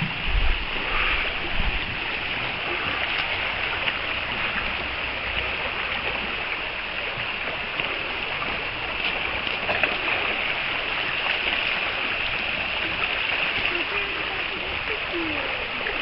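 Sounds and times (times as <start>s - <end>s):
faint ticks and splashes: 0.0s - 16.0s
floodwater rushing: 0.0s - 16.0s.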